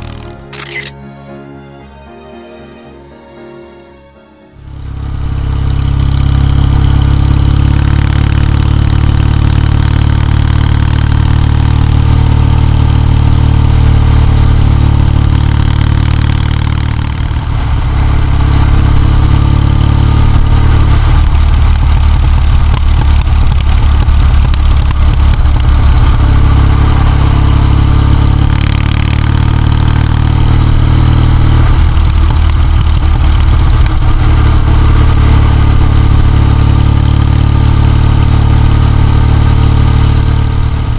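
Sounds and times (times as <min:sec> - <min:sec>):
motorcycle engine running: 0:00.0 - 0:00.9, 0:04.6 - 0:40.9.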